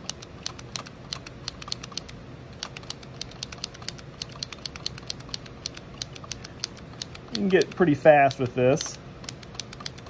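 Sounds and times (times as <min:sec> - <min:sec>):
tally counter clicking: 0:00.0 - 0:10.0.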